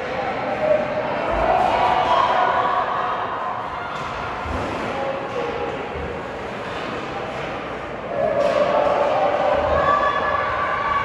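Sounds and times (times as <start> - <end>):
faint crowd voices: 0.0 - 11.0.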